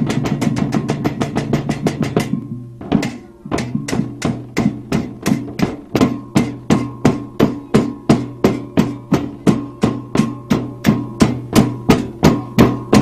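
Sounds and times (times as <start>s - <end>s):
percussive music with ringing strikes: 0.0s - 13.0s.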